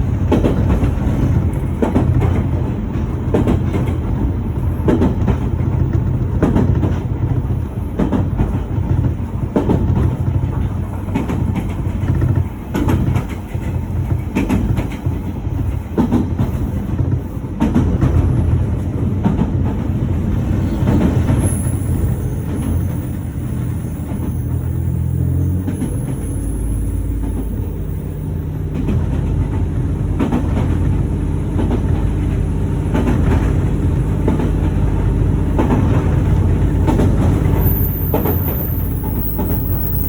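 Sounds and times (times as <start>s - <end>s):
train rumbling on track: 0.0s - 40.0s
wheels clicking over rail joints: 0.0s - 40.0s.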